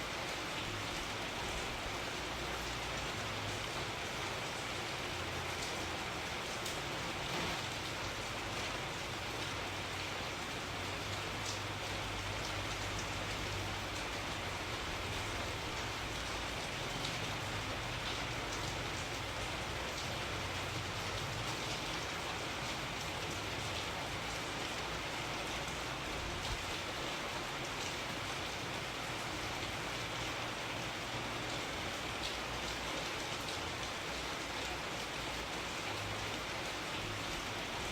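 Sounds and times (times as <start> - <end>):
rain pattering: 0.0 - 37.9.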